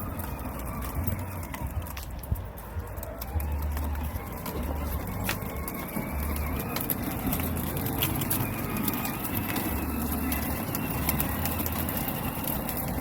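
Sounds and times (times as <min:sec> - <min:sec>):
plastic wheels clicking and knocking: 0:00.0 - 0:13.0
toy car rolling over rough ground: 0:00.0 - 0:13.0.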